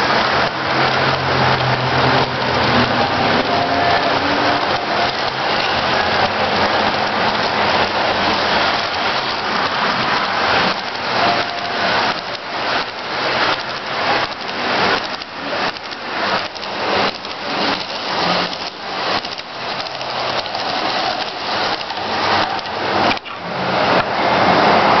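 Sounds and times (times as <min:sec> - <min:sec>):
model train wheels rattling: 0:00.0 - 0:23.4.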